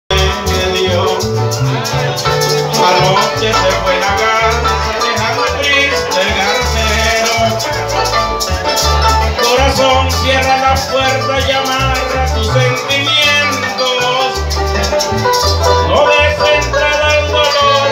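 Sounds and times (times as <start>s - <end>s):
maracas: 0.1s - 17.9s
plucked harp melody: 0.1s - 17.9s
rhythmic bass pulse: 0.1s - 17.9s.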